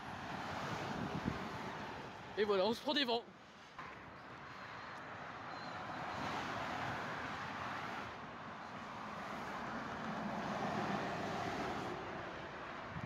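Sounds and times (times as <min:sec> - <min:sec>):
motorway traffic passing: 0:00.0 - 0:13.0.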